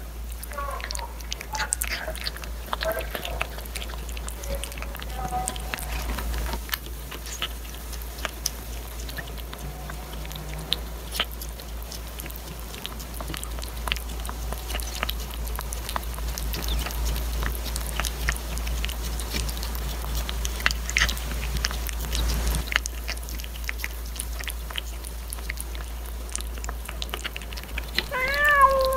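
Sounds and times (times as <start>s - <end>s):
kitten chewing and licking: 0.0s - 28.9s.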